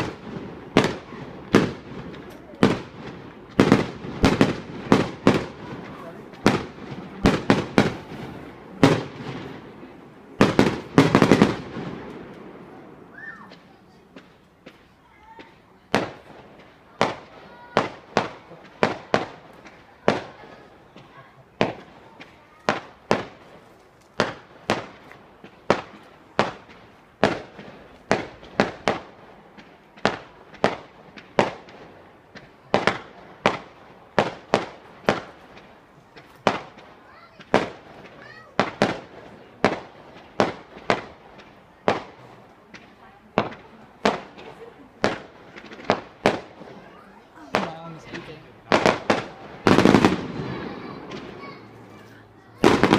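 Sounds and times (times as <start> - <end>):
firework shells bursting: 0.0 - 20.4, 21.0 - 52.9.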